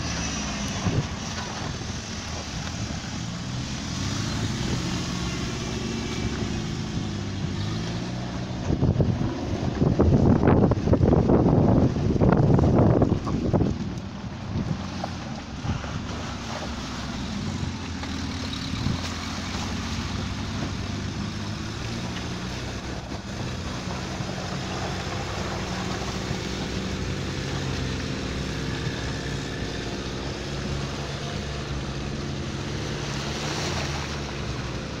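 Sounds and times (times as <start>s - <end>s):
engine running at low revs: 0.0s - 35.0s
wind noise: 0.0s - 35.0s.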